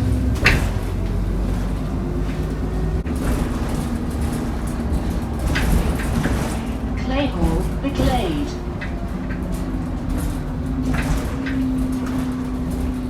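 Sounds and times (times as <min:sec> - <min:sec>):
bus engine and road noise rumble: 0:00.0 - 0:13.0.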